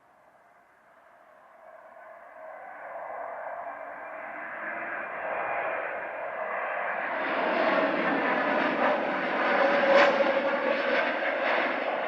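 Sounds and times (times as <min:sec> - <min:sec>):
jet engines droning: 0:01.9 - 0:12.0.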